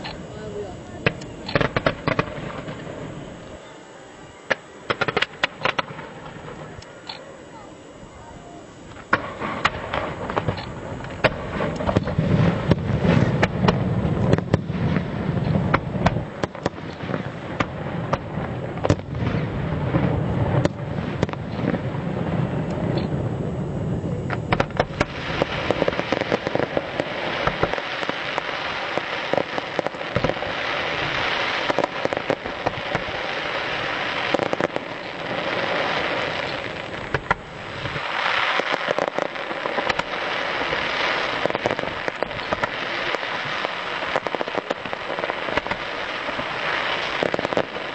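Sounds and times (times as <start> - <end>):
fireworks bangs: 0.0 - 7.0, 8.4 - 47.9
fireworks crackling: 0.0 - 47.9.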